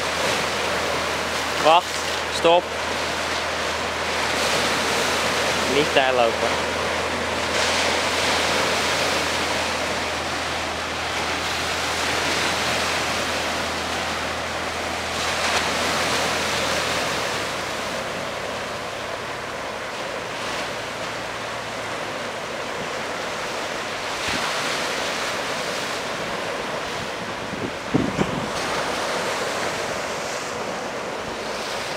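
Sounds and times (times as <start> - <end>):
sea waves breaking on rocks: 0.0 - 31.9.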